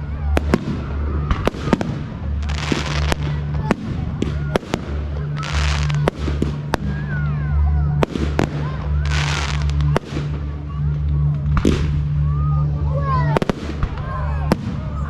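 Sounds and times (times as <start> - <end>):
crackling hiss: 0.0 - 12.3
fireworks bangs: 0.0 - 12.7, 13.3 - 15.0
steady low hum: 0.0 - 15.0.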